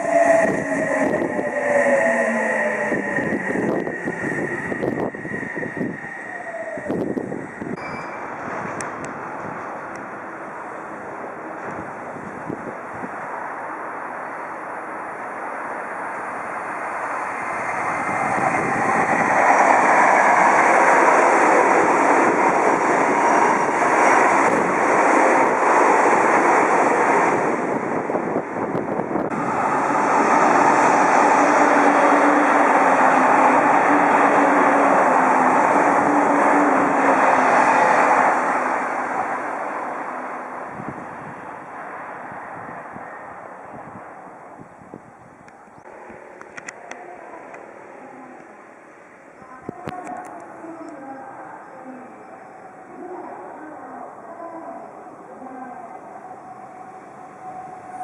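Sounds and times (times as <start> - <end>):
electric trains passing: 0.0 - 58.0.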